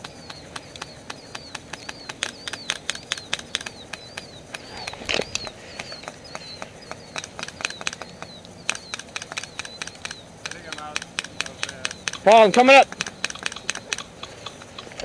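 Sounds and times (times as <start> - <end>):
high repeating chirp: 0.0 - 15.0
airsoft guns firing: 0.3 - 14.2.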